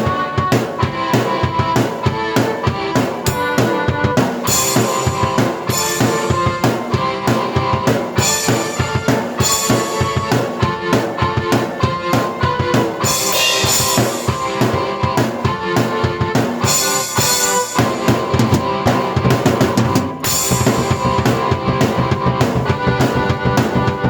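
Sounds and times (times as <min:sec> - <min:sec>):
drum beat: 0:00.0 - 0:24.0
sustained keyboard notes: 0:00.0 - 0:24.0.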